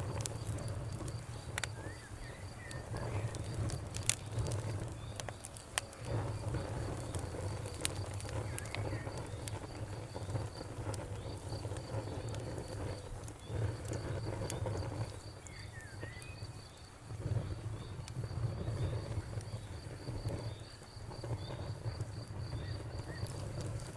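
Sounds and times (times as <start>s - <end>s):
cricket chirping: 0.0s - 23.9s
wood fire crackling and popping: 0.0s - 23.9s.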